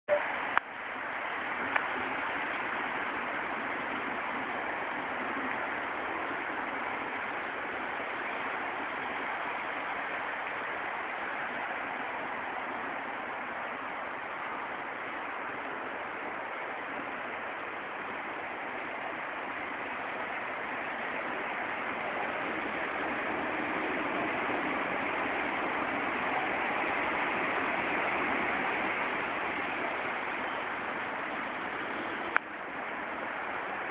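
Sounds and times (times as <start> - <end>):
background hiss: 0.1 - 33.9
train rolling in: 0.1 - 33.9.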